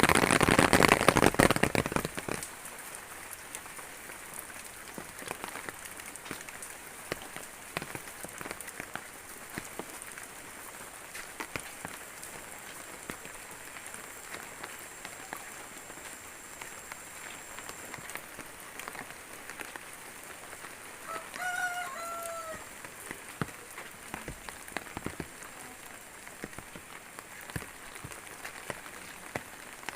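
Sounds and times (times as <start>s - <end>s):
raindrops ticking close: 0.0s - 29.9s
steady rainfall: 0.0s - 29.9s.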